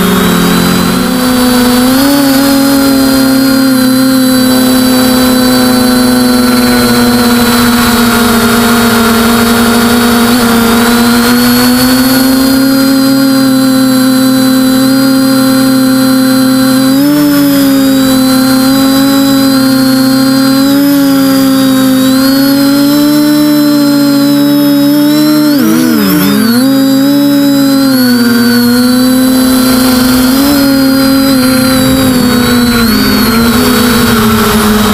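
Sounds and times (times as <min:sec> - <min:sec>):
quadcopter motors whining: 0:00.0 - 0:34.9.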